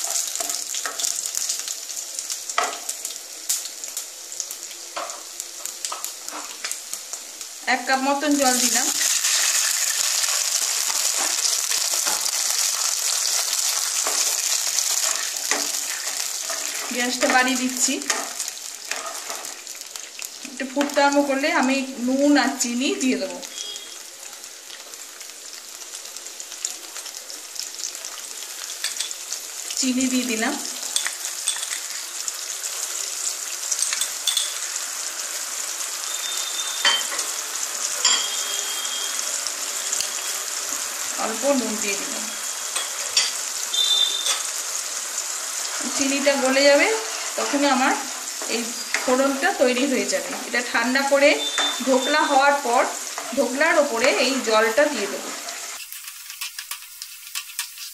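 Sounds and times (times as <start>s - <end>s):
hot oil sizzling in a pan: 0.0s - 57.9s.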